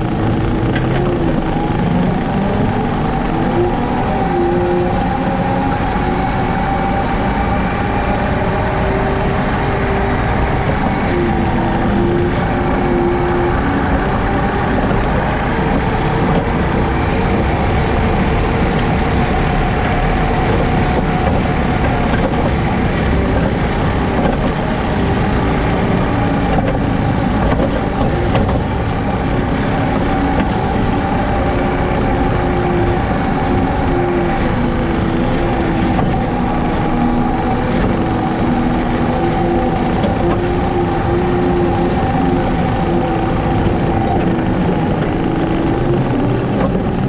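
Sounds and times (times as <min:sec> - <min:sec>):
diesel engine running under load: 0:00.0 - 0:47.0
rotary mower cutting: 0:00.0 - 0:47.0.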